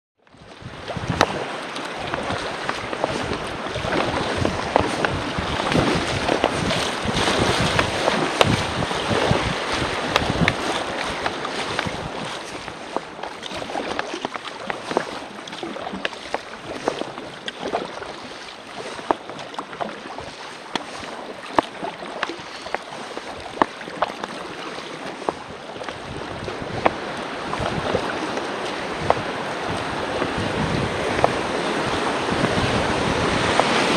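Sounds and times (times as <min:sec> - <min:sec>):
paddle splashes: 0:00.2 - 0:33.9
wind buffeting microphone: 0:00.4 - 0:19.2, 0:25.1 - 0:33.9
river water rushing: 0:00.4 - 0:33.9.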